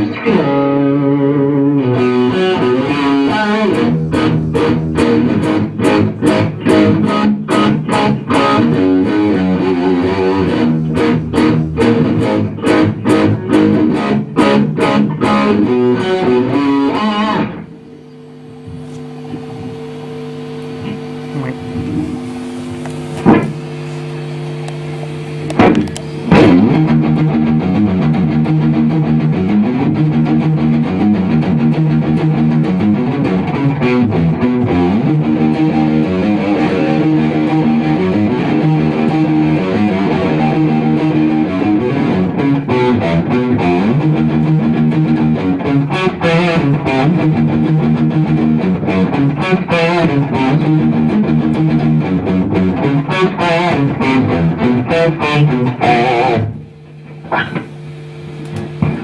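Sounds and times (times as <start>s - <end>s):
electric guitar riff: 0.0s - 59.0s.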